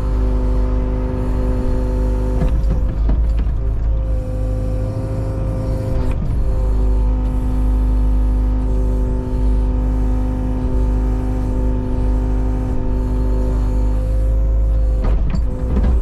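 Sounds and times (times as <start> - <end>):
diesel engine running: 0.0 - 16.0
hydraulic whine: 0.0 - 16.0.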